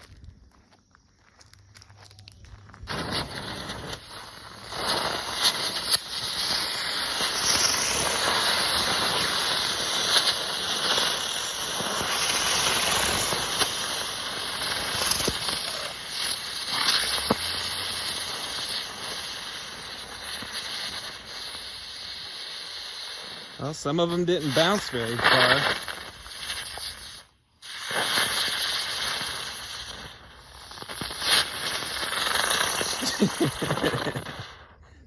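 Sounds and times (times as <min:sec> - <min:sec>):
fireworks hissing: 0:02.7 - 0:35.0
firework pops: 0:02.8 - 0:34.8.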